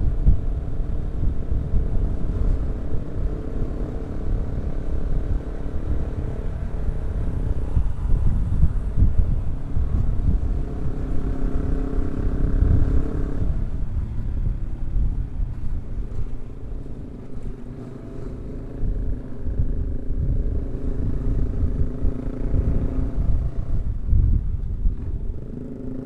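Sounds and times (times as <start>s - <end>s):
constant low rumble: 0.0s - 26.0s
motorcycle engine running: 0.0s - 26.0s.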